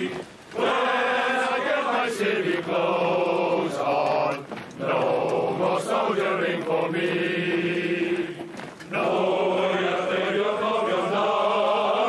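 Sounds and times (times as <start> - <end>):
men singing together: 0.0 - 12.0.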